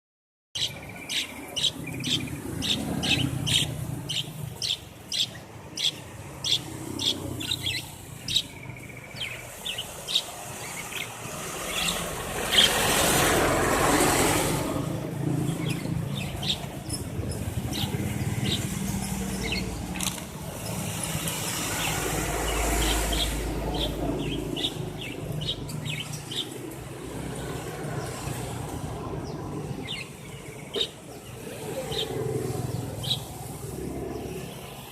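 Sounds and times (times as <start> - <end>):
canary chirping: 0.6 - 28.6, 29.2 - 34.6
broad rush of noise: 0.6 - 34.9.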